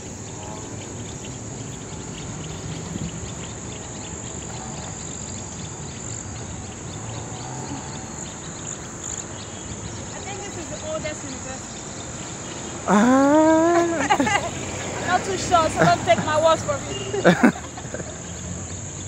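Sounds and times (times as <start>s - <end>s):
high-pitched insect chorus trilling: 0.0s - 19.0s.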